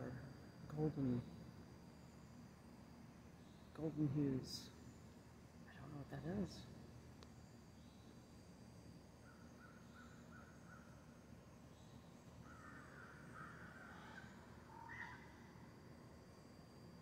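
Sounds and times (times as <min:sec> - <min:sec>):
faint distant bird calls: 0:00.0 - 0:17.0.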